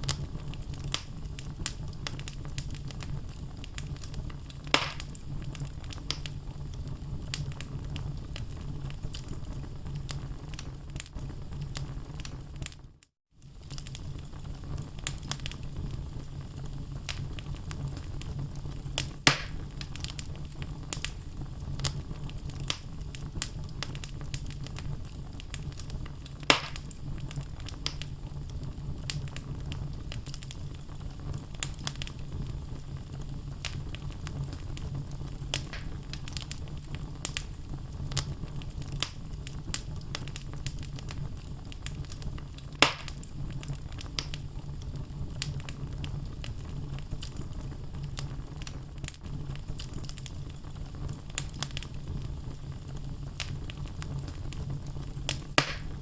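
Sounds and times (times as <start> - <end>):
loud fire pops: 0.0 - 56.0
low fire rumble: 0.0 - 56.0
wood fire crackling: 0.0 - 56.0.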